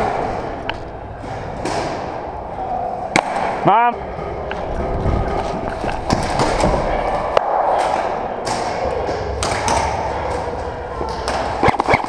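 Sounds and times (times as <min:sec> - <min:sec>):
steady noisy background: 0:00.0 - 0:12.0.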